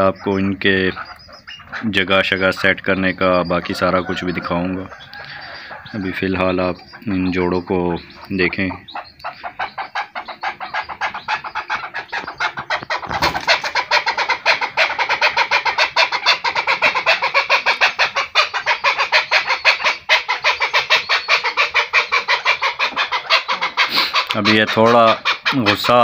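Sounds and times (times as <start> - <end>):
partridge clucking call: 0.0 - 26.0.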